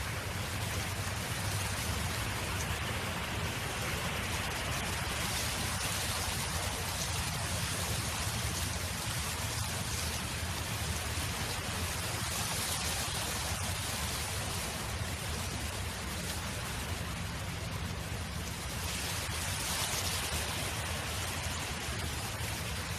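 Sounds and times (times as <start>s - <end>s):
wind blowing across a field: 0.0s - 22.9s.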